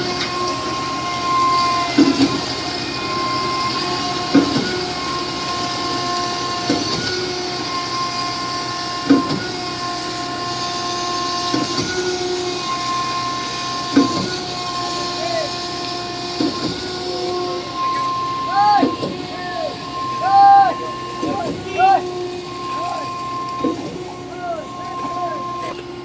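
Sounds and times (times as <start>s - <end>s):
machine whining: 0.0s - 26.0s.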